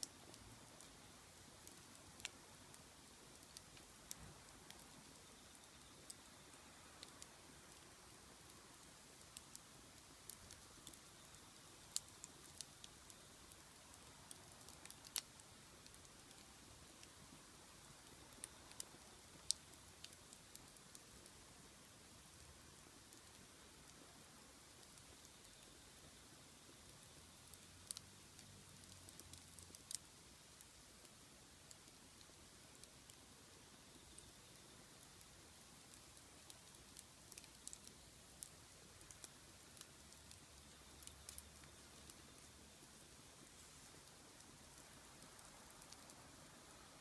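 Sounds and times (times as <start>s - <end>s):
faint hiss: 0.0s - 47.0s
fire popping: 0.0s - 47.0s
wood fire crackling: 0.0s - 47.0s.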